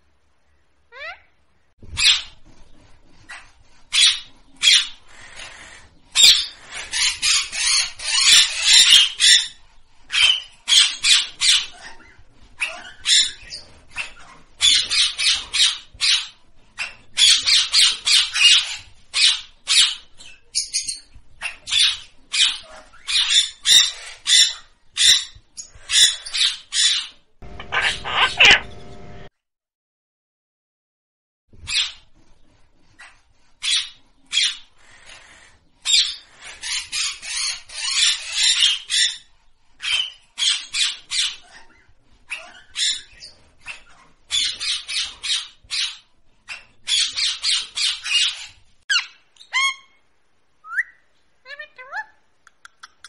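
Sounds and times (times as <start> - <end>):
parakeets screeching: 3.3 - 29.2, 33.0 - 50.0.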